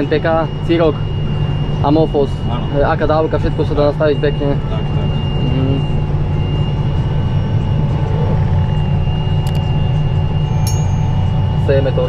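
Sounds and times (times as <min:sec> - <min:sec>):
thin high whine: 0:00.0 - 0:12.0
tractor engine drone: 0:00.0 - 0:12.0.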